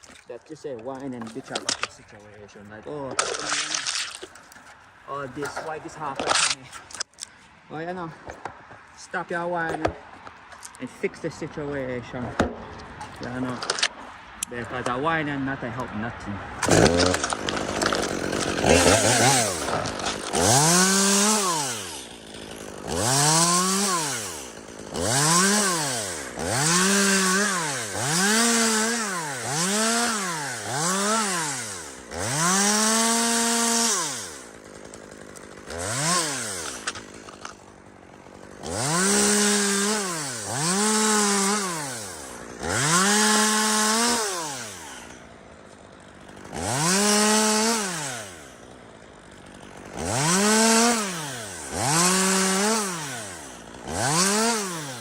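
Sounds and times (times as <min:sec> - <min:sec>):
chainsaw revving: 0:00.0 - 0:07.1, 0:12.8 - 0:15.0, 0:16.6 - 0:55.0.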